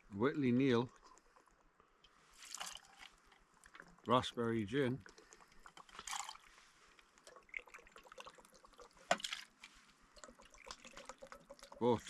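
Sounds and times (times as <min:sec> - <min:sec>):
liquid trickling and dripping: 0:00.0 - 0:12.0.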